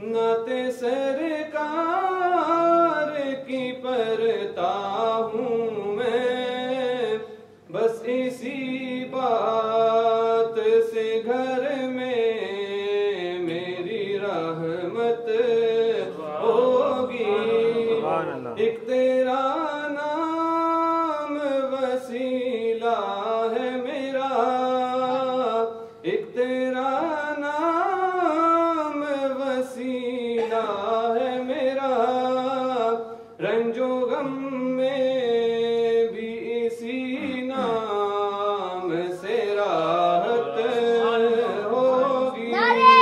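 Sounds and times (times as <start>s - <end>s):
man singing unaccompanied: 0.0s - 43.0s.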